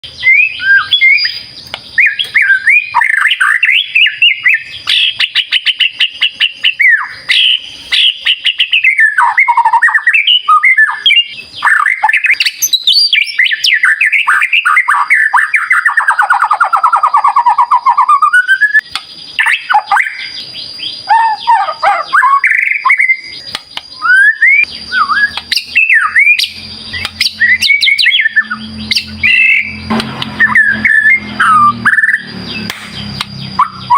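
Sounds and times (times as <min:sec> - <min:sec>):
songbird singing: 0:00.0 - 0:33.9.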